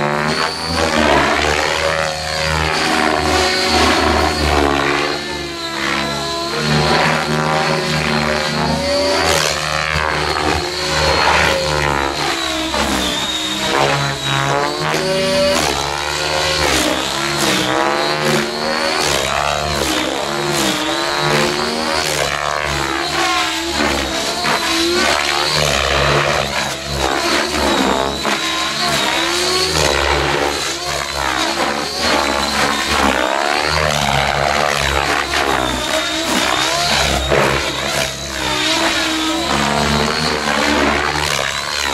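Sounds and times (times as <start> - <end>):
remote control helicopter flying: 0.0 - 41.9
steady high whine: 0.0 - 41.9.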